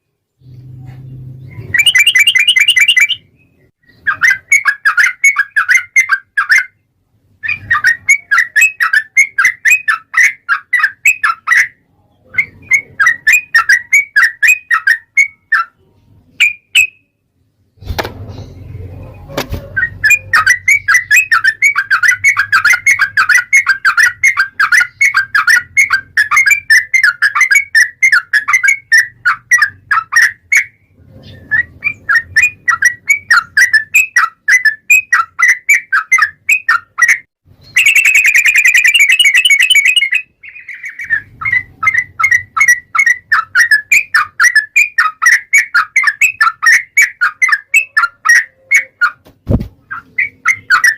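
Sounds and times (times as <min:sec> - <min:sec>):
bulbul chattering song: 0:01.4 - 0:06.9, 0:07.6 - 0:17.1, 0:19.7 - 0:30.8, 0:31.4 - 0:49.2.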